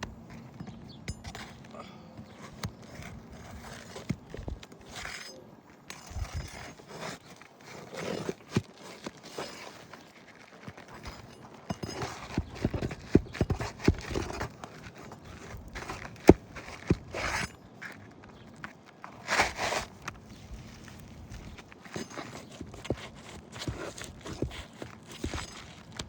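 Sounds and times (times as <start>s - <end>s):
taps and knocks on roof shingles: 0.0s - 5.2s, 6.0s - 26.0s.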